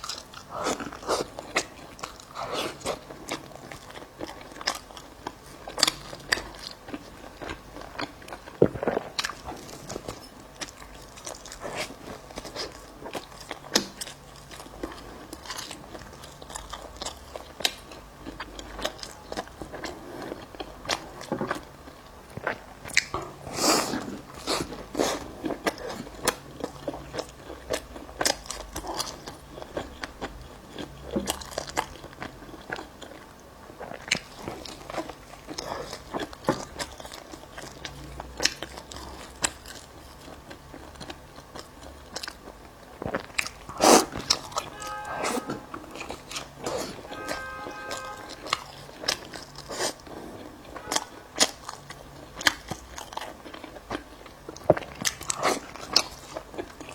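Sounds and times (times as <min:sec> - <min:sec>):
chewing and biting bread: 0:00.0 - 0:56.9.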